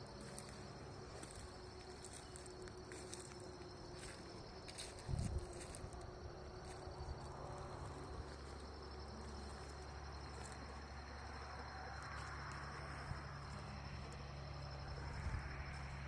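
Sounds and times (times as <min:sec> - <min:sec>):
insects chirring: 0:00.0 - 0:16.0
low steady hum: 0:00.0 - 0:16.0.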